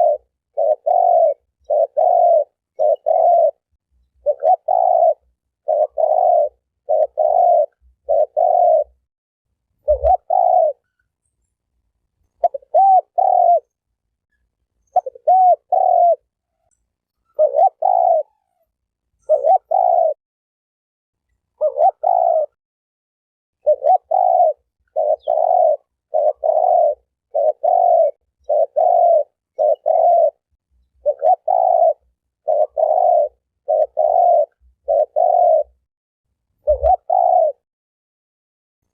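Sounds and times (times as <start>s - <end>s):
dove cooing: 0.0s - 9.1s, 9.8s - 11.0s, 12.4s - 13.8s, 14.8s - 20.2s, 21.5s - 22.6s, 23.6s - 35.8s, 36.6s - 37.6s.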